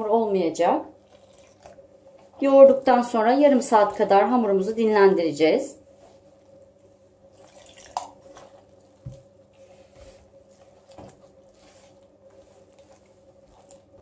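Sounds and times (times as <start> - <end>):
dough squishing: 0.0 - 14.0
low steady hum: 0.0 - 14.0.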